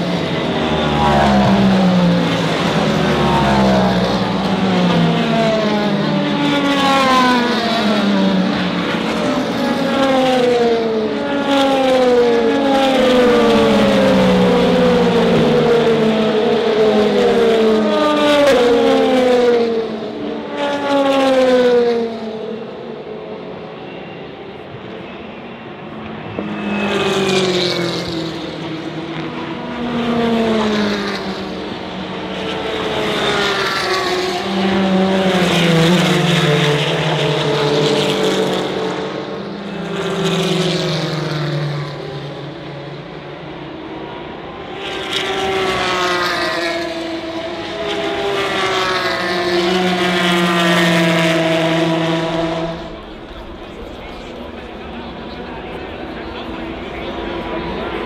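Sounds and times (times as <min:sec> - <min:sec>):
race cars passing: 0:00.0 - 0:58.0.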